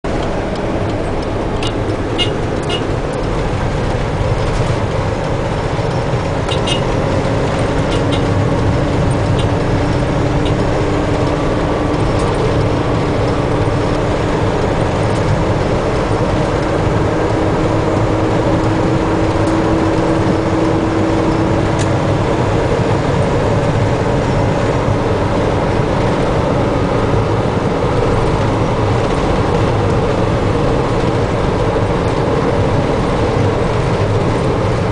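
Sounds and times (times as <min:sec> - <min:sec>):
vehicle engine and road noise: 0:00.0 - 0:34.9.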